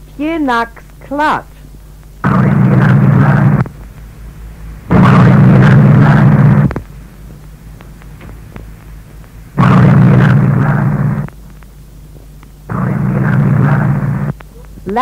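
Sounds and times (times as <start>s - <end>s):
tape hiss and hum: 0.0s - 15.0s.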